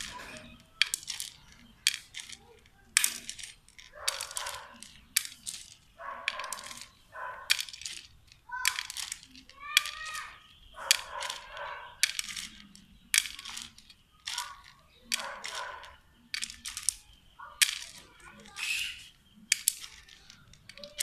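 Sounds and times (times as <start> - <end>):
beans clicking into plastic bowl: 0.0 - 21.0.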